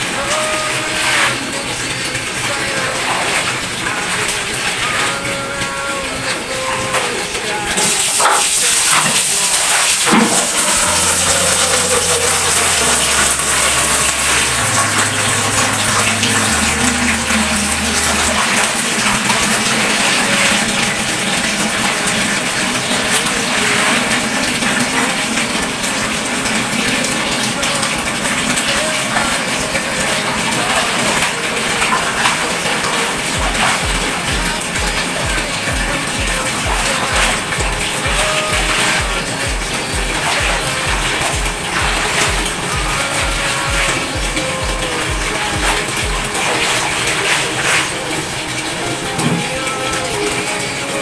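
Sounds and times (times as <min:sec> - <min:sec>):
tap running into plastic bucket: 0:00.0 - 0:50.8
water sloshing and splashing: 0:00.0 - 0:51.0.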